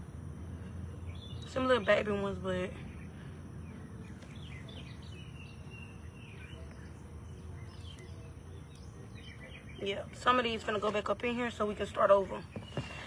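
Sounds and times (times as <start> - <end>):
birds chirping: 0.0 - 13.0
low outdoor background noise: 0.0 - 13.0.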